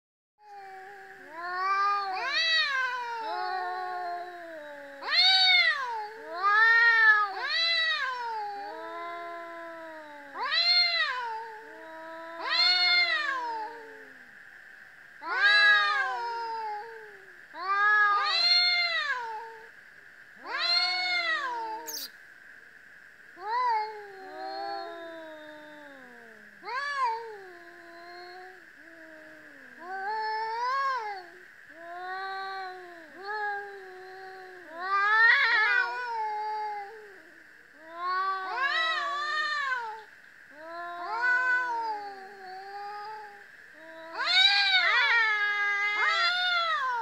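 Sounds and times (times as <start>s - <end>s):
cats yowling: 0.5s - 14.3s, 15.2s - 19.7s, 20.4s - 22.1s, 23.4s - 47.0s
faint high drone: 0.5s - 45.1s.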